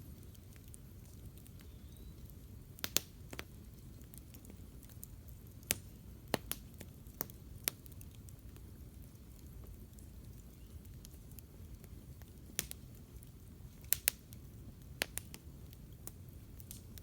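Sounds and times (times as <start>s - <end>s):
fire popping and snapping: 0.0s - 17.0s
low rumble of burning fire: 0.0s - 17.0s.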